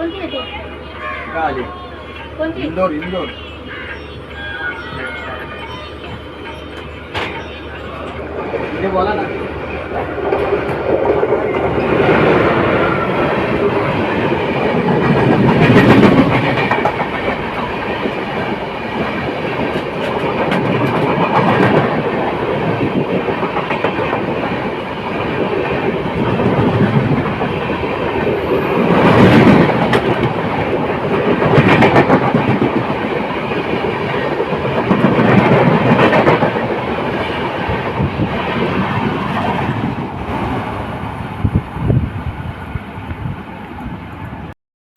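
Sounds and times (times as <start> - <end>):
train wheels rumbling on rails: 0.0 - 44.5.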